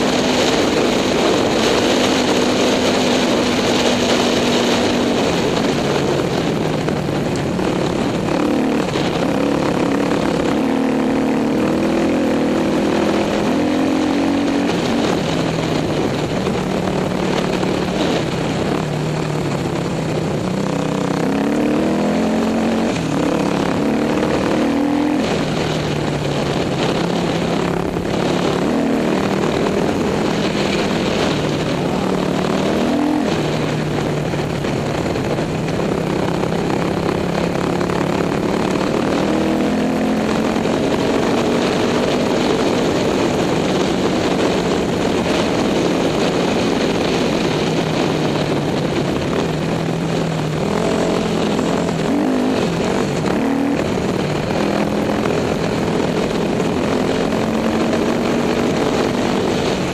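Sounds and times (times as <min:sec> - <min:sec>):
dirt bike engine revving: 0:00.0 - 0:35.8, 0:36.4 - 0:59.9
wind noise on microphone: 0:00.0 - 0:59.9.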